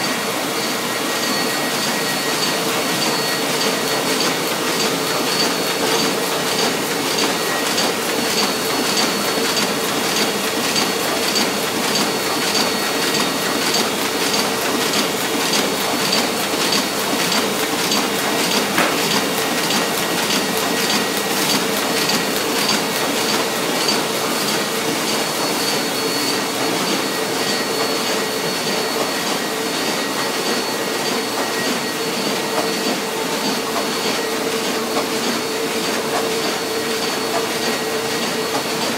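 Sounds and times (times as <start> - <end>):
printing press running: 0.0 - 38.9.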